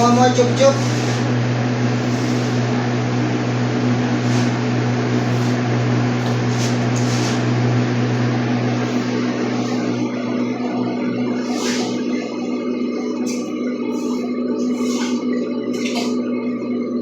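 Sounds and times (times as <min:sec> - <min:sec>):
machine humming and hissing: 0:00.0 - 0:17.0.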